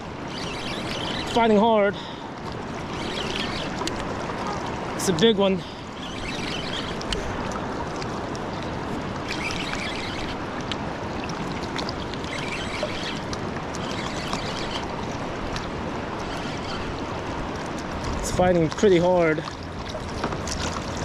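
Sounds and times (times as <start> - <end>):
river current rushing: 0.0 - 21.0.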